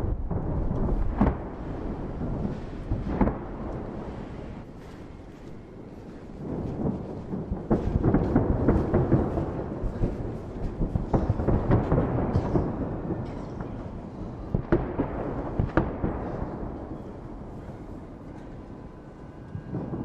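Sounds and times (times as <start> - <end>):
fireworks booming: 0.0 - 20.0
fireworks cracks: 0.0 - 20.0.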